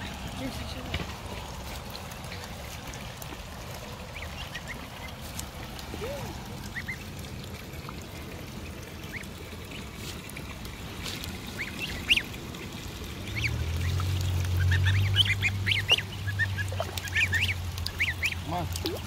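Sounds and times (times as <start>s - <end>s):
goslings and ducklings peeping: 0.4s - 7.1s, 8.6s - 10.0s, 10.8s - 19.0s.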